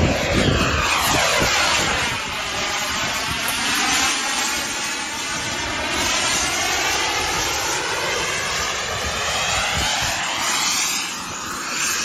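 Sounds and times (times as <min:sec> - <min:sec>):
fighter jet roar overhead: 0:00.0 - 0:12.0.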